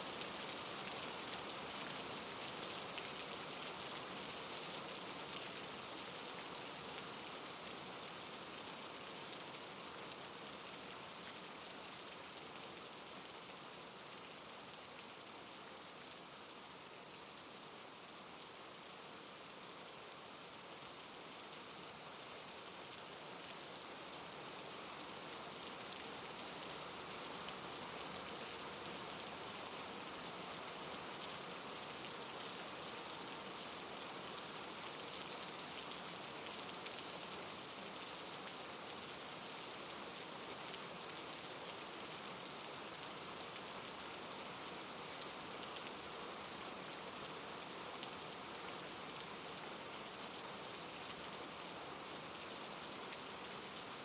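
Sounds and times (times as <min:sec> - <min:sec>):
soft rainfall: 0:00.0 - 0:54.0.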